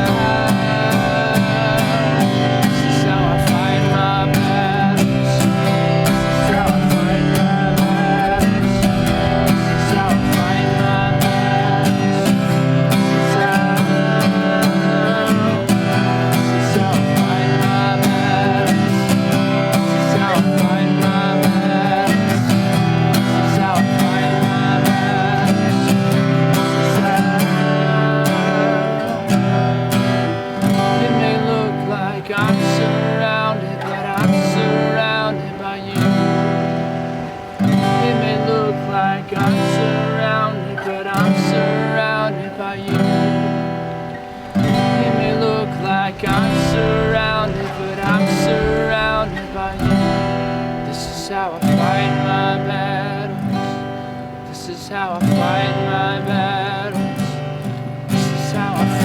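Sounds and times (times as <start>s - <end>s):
worship music with acoustic guitar: 0.0s - 59.0s.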